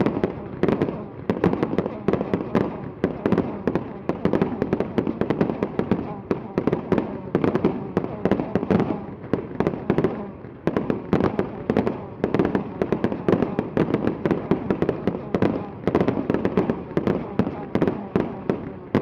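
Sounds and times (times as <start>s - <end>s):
fireworks barrage: 0.0s - 19.0s.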